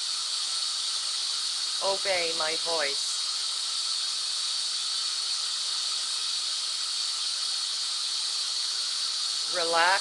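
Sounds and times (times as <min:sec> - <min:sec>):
white noise hiss: 0:00.0 - 0:10.0.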